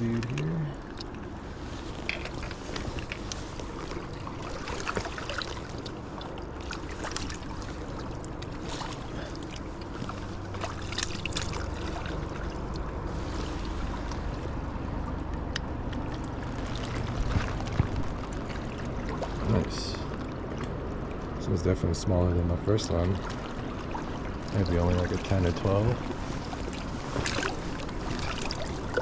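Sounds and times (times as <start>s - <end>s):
low wind rumble: 0.0s - 29.0s
small water splashes: 0.0s - 29.0s
river water rushing: 0.7s - 21.4s, 23.2s - 29.0s.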